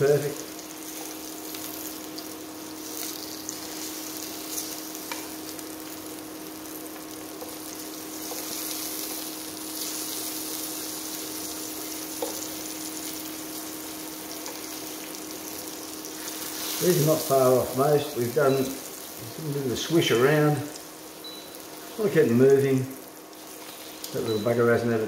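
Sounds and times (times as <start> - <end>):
mushrooms sizzling in frying pan: 0.0 - 25.0
steady hum: 0.0 - 25.0.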